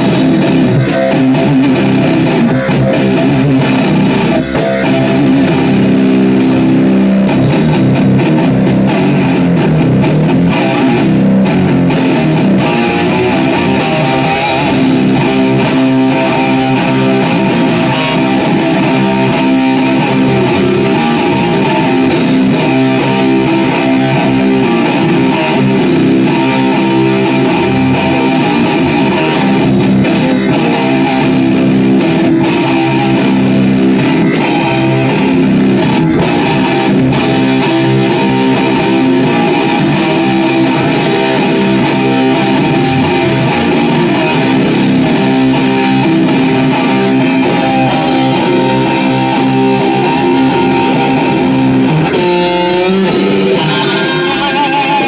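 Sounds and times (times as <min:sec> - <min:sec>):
bass guitar: 0:00.0 - 0:55.0
electric guitar: 0:00.0 - 0:55.0.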